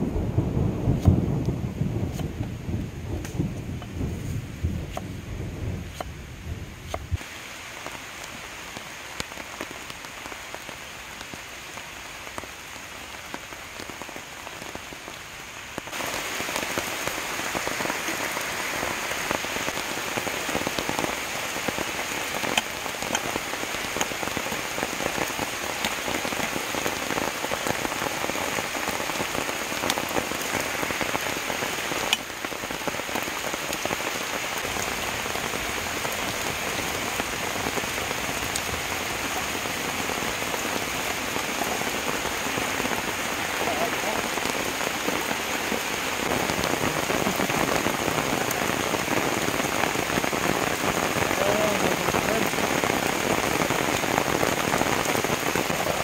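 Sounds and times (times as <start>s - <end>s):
rain on river and leaves: 0.0s - 56.0s.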